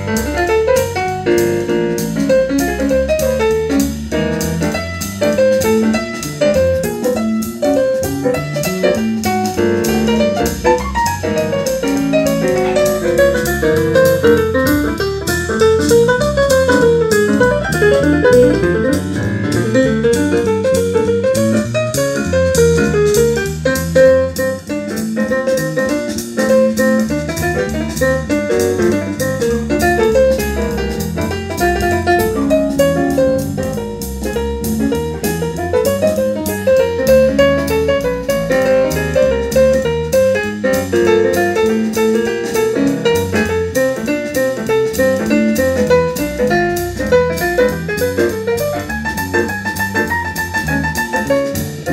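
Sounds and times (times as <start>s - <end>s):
piano music with drum beat: 0.0s - 51.9s.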